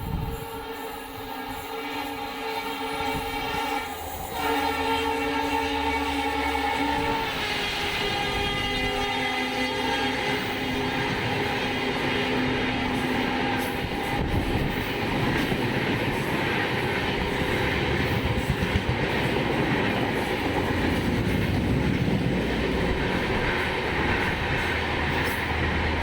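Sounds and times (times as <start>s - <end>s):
train rumbling over rails: 0.0s - 26.0s.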